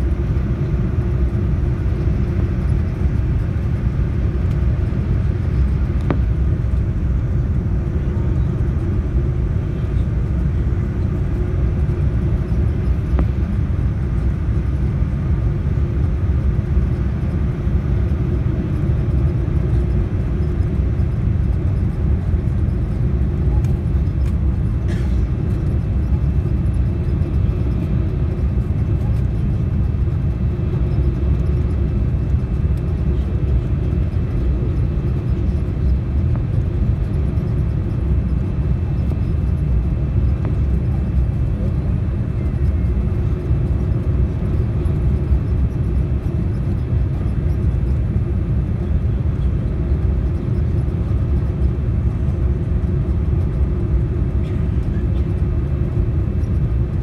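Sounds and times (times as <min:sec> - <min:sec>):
aircraft cabin roar: 0:00.0 - 0:57.0.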